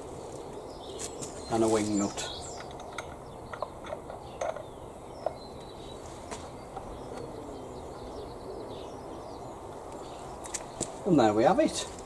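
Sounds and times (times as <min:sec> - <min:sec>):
faint bird chirps: 0:00.0 - 0:10.8
outdoor background hiss: 0:00.0 - 0:12.0.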